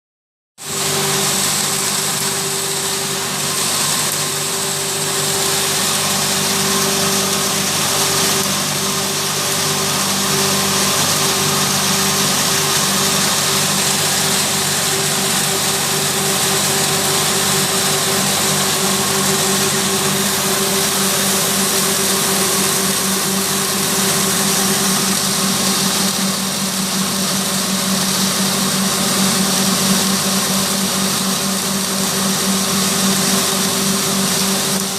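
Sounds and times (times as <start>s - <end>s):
grinding machine humming and hissing: 0.6s - 34.9s.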